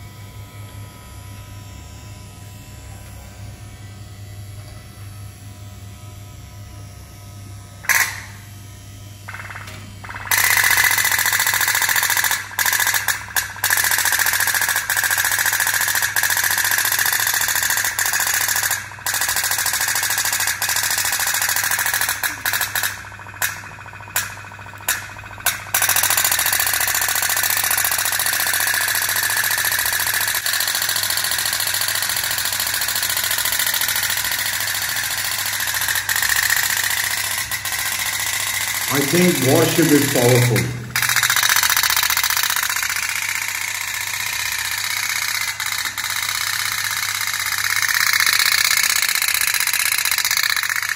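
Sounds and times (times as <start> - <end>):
toy boat motor buzzing: 0.8 - 50.9.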